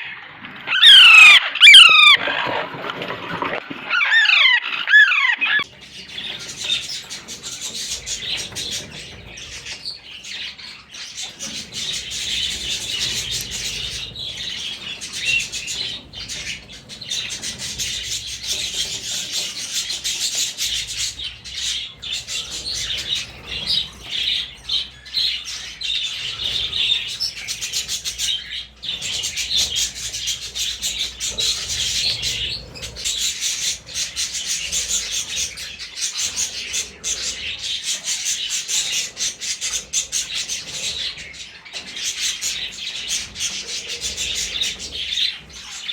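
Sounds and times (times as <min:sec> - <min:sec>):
birds chirping: 0:00.0 - 0:45.9.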